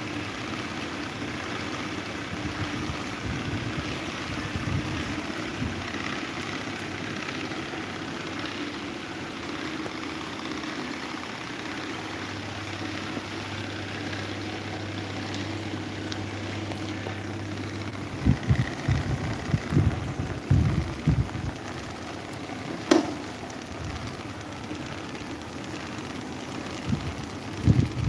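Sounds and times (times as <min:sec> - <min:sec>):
electric fan whirring: 0:00.0 - 0:28.0.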